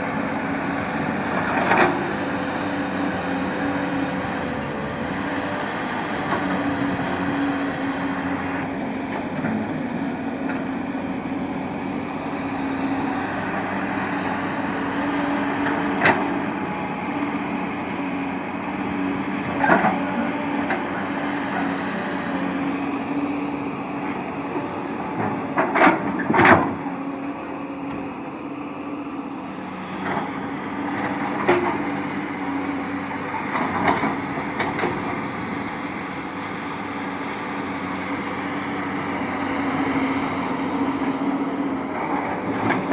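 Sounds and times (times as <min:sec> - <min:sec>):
diesel machinery engine humming: 0:00.0 - 0:42.9.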